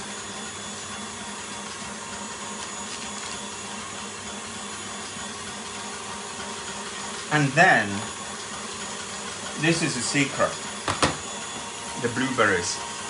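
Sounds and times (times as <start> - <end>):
kitchen equipment motor hum: 0.0 - 13.0.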